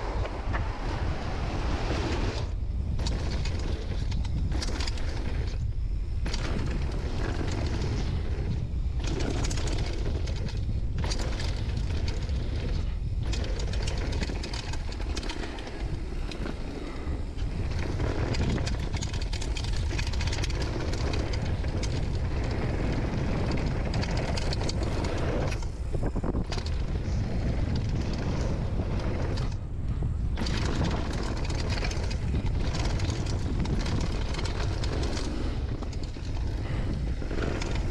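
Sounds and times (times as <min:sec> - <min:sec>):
bike rattles and clicks: 0:00.0 - 0:37.9
bike tyres rolling on gravel: 0:00.0 - 0:37.9
wind rumble on microphone: 0:00.0 - 0:37.9.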